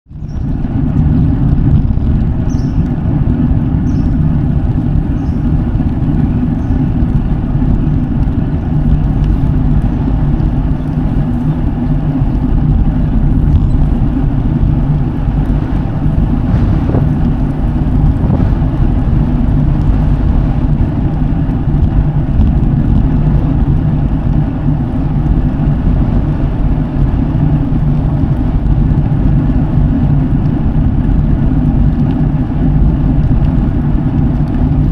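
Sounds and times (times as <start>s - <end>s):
bike tyres rolling on pavement: 0.1s - 34.9s.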